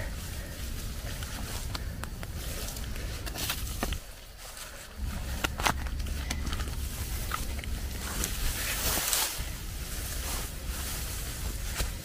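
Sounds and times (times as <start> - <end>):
footsteps in grass and leaves: 0.0 - 12.0
low microphone rumble: 0.0 - 12.0.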